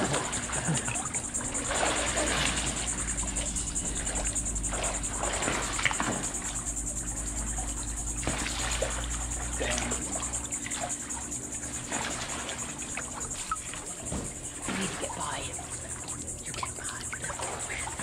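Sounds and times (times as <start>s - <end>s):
insects buzzing: 0.0s - 18.0s
pool water splashing: 0.0s - 18.0s.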